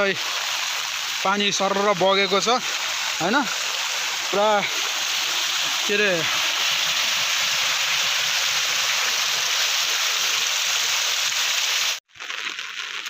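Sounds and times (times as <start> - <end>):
rainwater rushing: 0.0 - 13.0.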